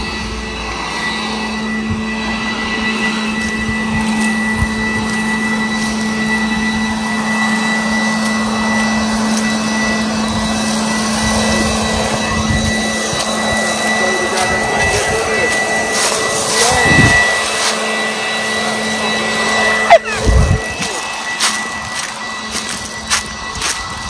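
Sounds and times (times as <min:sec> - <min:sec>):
leaf blower running: 0:00.0 - 0:24.0.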